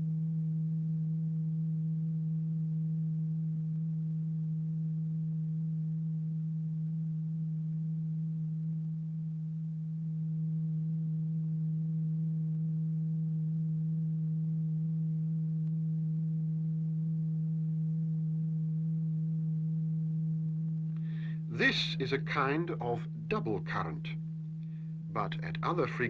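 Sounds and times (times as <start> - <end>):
steady low pure tone: 0.0 - 26.0.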